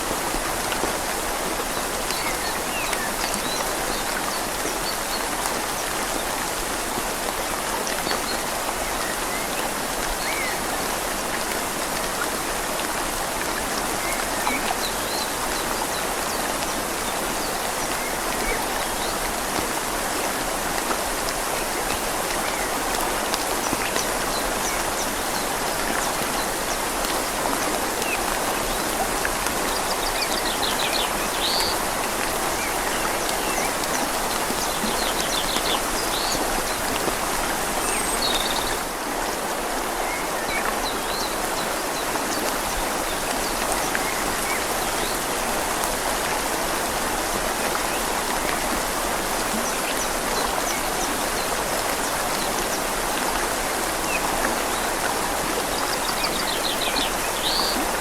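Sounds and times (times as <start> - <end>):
rain falling on leaves: 0.0 - 58.0
river flowing: 0.0 - 58.0.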